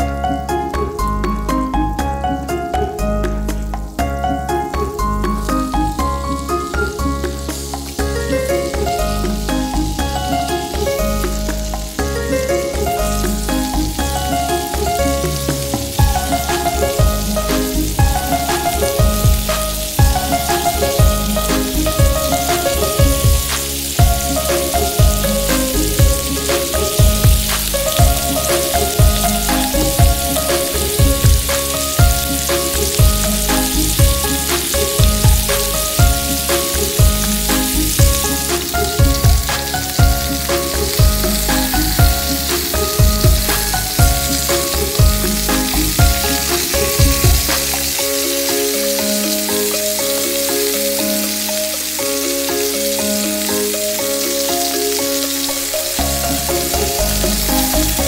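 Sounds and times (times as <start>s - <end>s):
background music with a beat: 0.0s - 58.0s
skewers sizzling in a frying pan: 0.0s - 58.0s.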